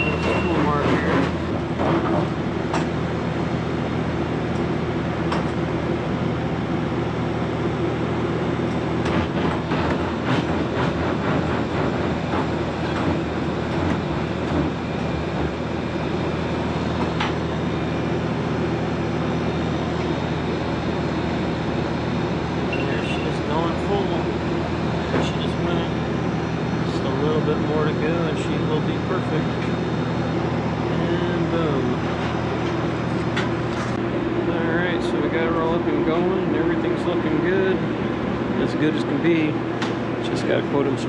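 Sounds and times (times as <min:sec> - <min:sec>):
refrigeration unit humming: 0:00.0 - 0:41.0.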